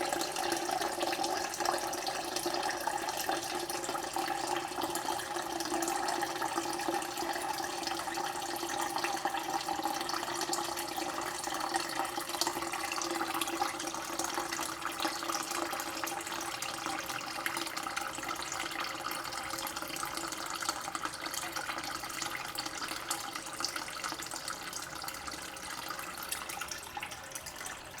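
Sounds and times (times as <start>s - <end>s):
water running into a jug: 0.0s - 28.0s.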